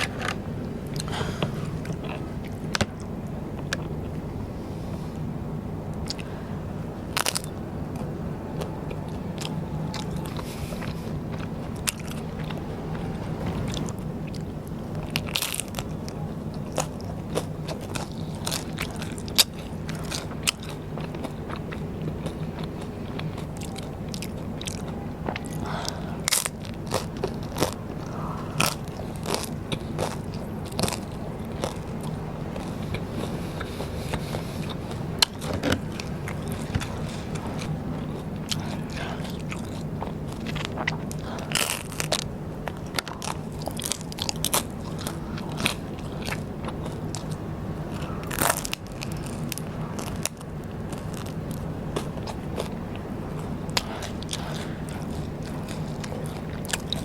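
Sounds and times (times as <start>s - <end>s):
chewing mouth sounds: 0.0s - 4.3s, 5.9s - 6.4s, 7.0s - 57.0s
steady low hum: 0.0s - 57.0s
crisp crunching bites: 7.1s - 8.0s, 8.6s - 57.0s.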